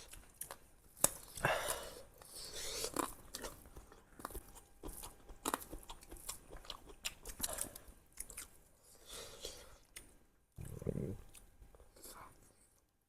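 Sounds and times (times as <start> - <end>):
crunching and chewing on bone: 0.0 - 12.6.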